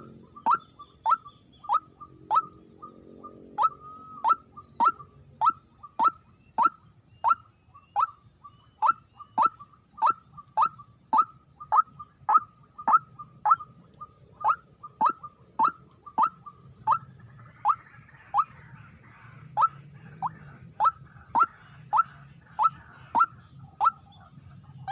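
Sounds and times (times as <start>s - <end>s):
bird lure call with falling pitch: 0.0s - 18.6s, 19.5s - 24.9s.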